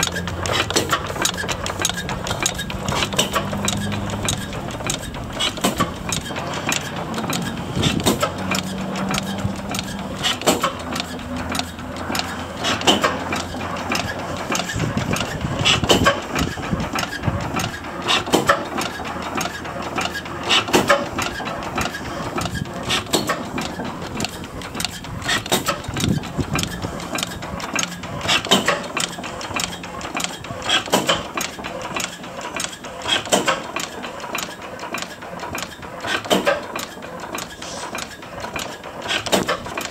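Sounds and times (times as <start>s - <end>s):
oil engine clattering: 0.0s - 39.9s.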